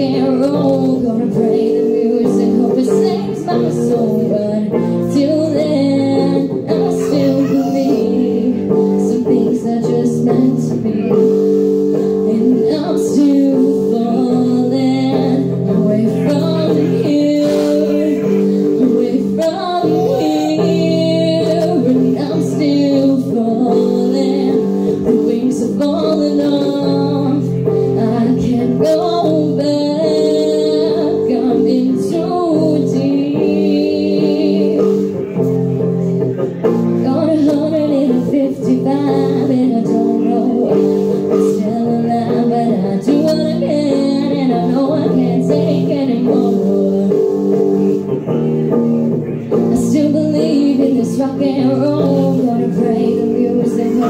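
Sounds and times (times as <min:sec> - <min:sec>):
woman singing: 0:00.0 - 0:48.4, 0:49.5 - 0:54.0
live rock band playing: 0:00.0 - 0:54.0.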